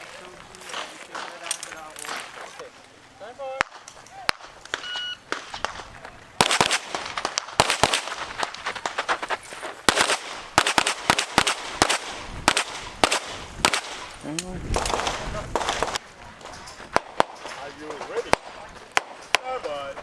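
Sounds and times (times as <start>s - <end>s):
pistol shots in bursts: 3.6s - 20.0s.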